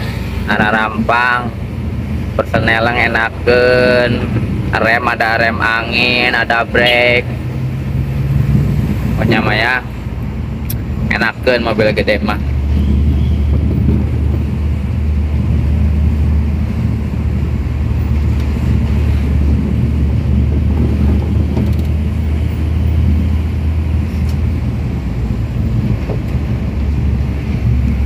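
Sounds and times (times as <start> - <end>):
road and wind noise: 0.0 - 28.0
vehicle engine rumble: 0.0 - 28.0.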